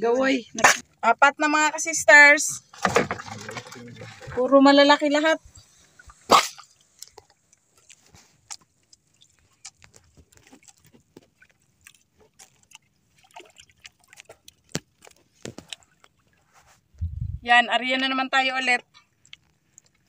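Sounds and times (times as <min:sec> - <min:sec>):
water sounds: 0:00.0 - 0:20.0.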